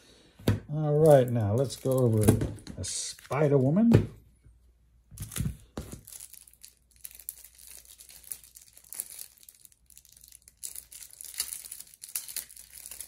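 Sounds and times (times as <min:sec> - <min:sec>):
plastic wrapping crinkling and tearing: 0:00.9 - 0:03.9, 0:05.2 - 0:13.0.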